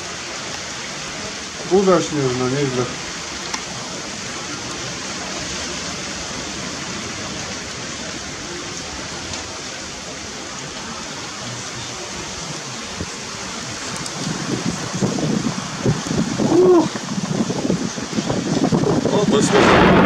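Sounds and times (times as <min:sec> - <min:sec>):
strong wind through trees: 0:00.0 - 0:20.0.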